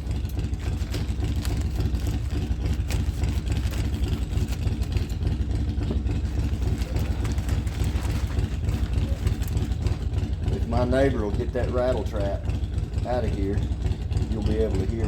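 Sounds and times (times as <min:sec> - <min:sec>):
old vehicle engine idling: 0:00.0 - 0:15.0.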